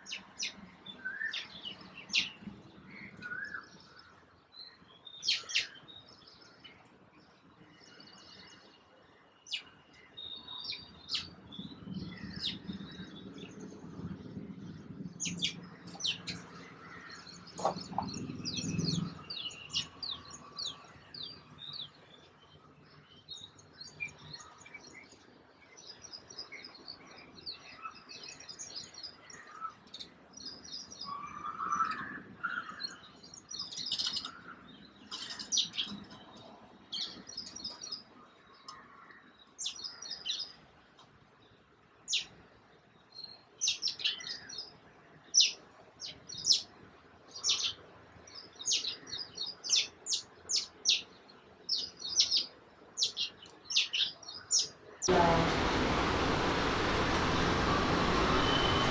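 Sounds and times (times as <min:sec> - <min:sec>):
sparrows chirping: 0:00.0 - 0:40.7, 0:41.3 - 0:58.9.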